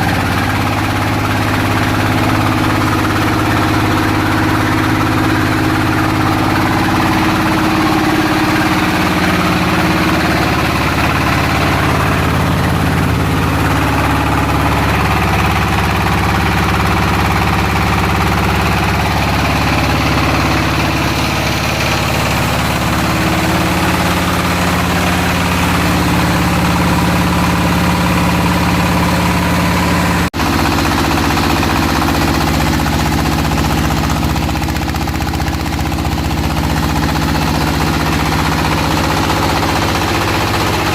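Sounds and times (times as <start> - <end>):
machine humming with rattling knock: 0.0 - 40.9.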